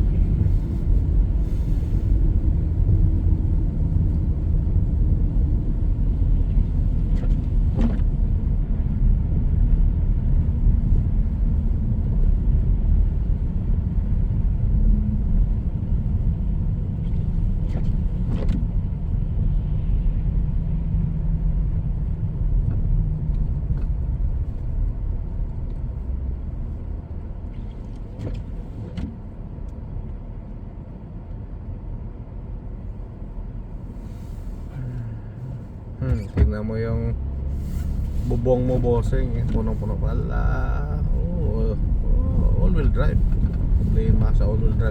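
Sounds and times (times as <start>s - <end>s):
car road noise rumble: 0.0s - 44.9s.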